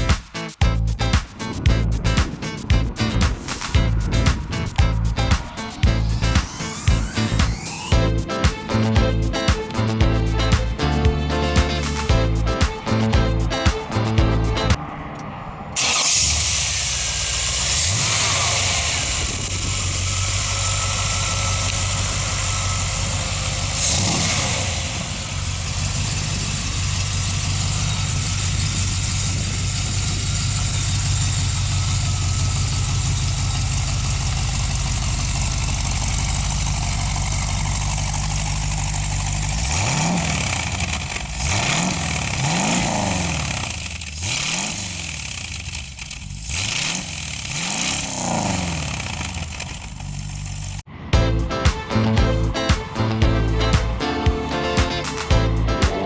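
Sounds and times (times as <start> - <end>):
car engine starting: 0.7 - 56.0
car engine idling and revving: 1.8 - 11.3, 13.1 - 50.9.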